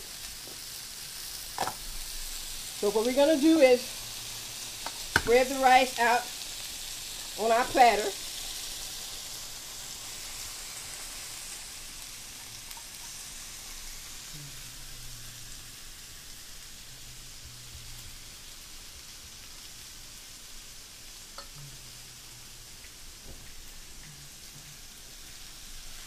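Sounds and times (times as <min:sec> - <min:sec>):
meat sizzling on grill: 0:00.0 - 0:26.0.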